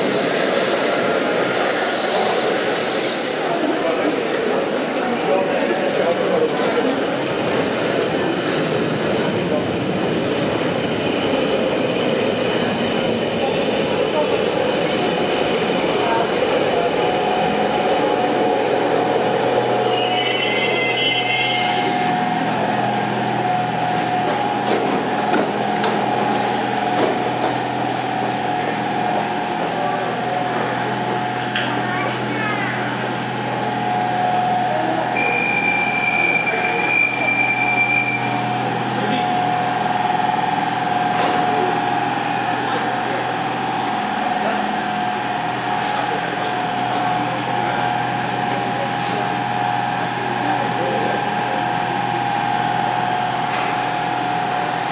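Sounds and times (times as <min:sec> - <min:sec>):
station machinery drone: 0:00.0 - 0:54.9.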